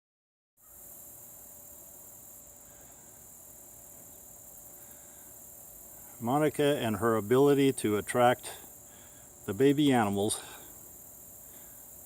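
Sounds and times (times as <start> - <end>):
crickets chirping: 0.6 - 12.0.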